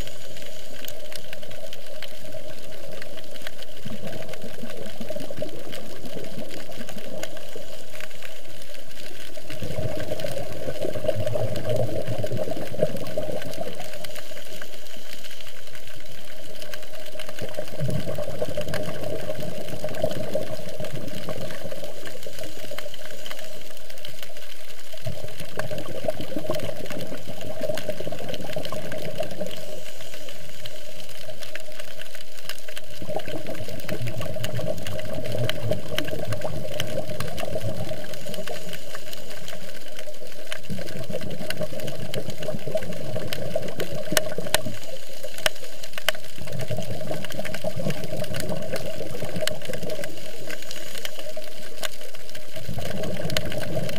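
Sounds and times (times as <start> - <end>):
muffled underwater water noise: 0.0 - 53.9.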